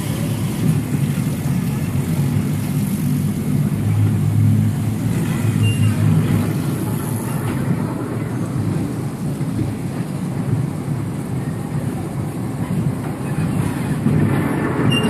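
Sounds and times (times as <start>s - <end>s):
roller coaster wheels rumbling on rail: 0.0s - 15.0s.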